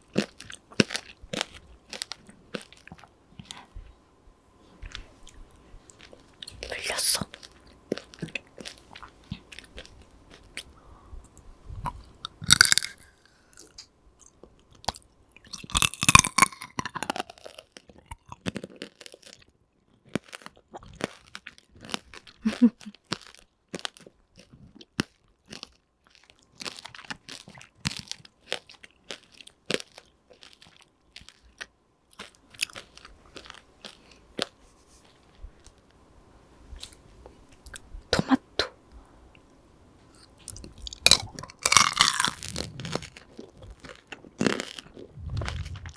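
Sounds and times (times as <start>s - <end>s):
chewing crunchy candy: 0.0s - 3.8s, 4.8s - 35.9s, 40.1s - 45.9s.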